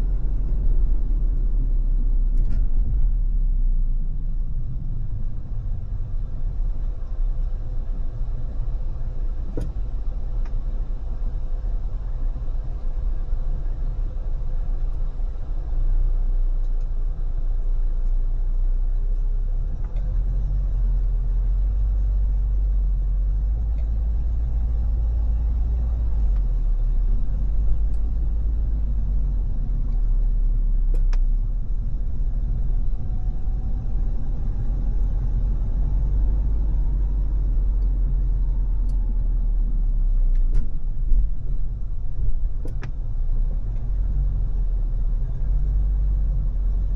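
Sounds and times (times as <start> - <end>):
car road and wind rumble: 0.0 - 46.9.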